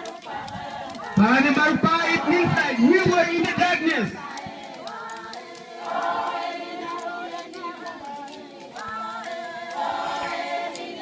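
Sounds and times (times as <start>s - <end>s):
group of voices singing: 0.0s - 11.0s.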